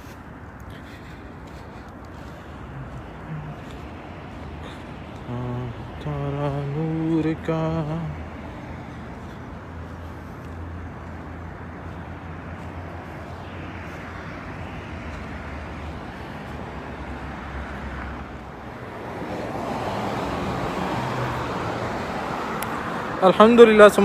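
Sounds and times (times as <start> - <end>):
road traffic hum: 0.0 - 24.0
vehicle passing by: 0.0 - 24.0.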